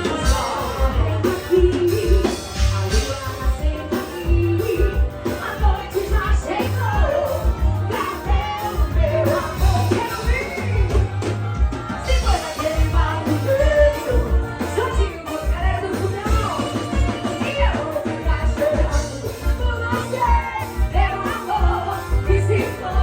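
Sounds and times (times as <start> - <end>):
electric bass: 0.0 - 23.0
person singing: 0.0 - 23.0
steady drum beat: 0.0 - 23.0.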